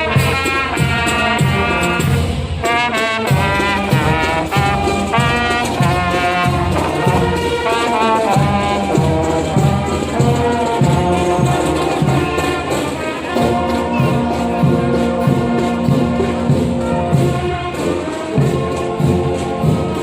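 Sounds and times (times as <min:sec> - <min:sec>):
brass band playing: 0:00.0 - 0:20.0
steady drumbeat: 0:00.0 - 0:20.0.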